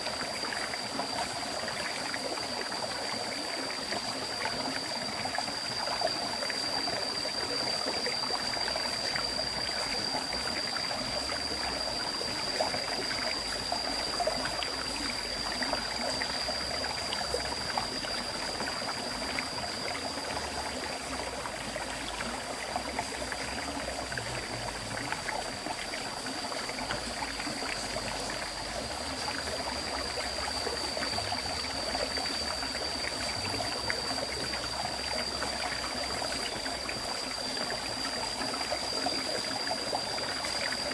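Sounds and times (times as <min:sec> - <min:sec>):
steady high-pitched tone: 0:04.2 - 0:40.9.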